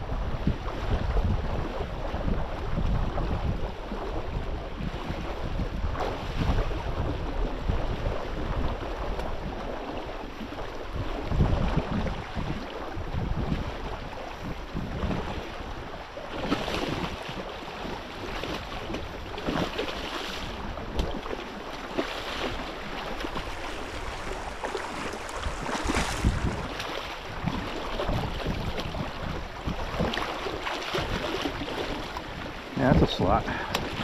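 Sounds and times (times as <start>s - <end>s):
choppy water slapping a hull: 0.0s - 34.0s
wind buffeting microphone: 0.0s - 34.0s.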